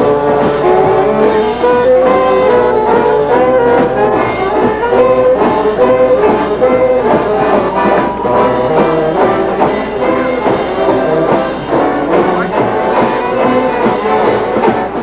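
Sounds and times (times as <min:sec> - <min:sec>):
banjos: 0:00.0 - 0:15.0
saxophones: 0:00.0 - 0:15.0
string band playing lively tune: 0:00.0 - 0:15.0.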